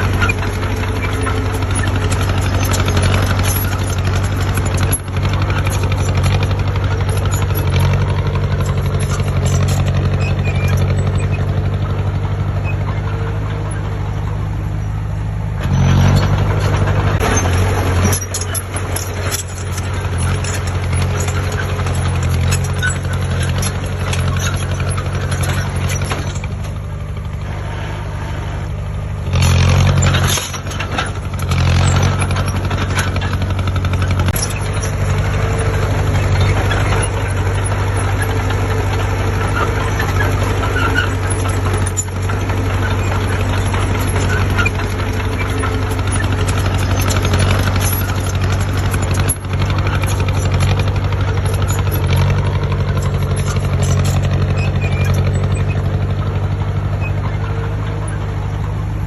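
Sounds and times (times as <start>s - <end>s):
diesel construction machine running: 0.0s - 59.0s.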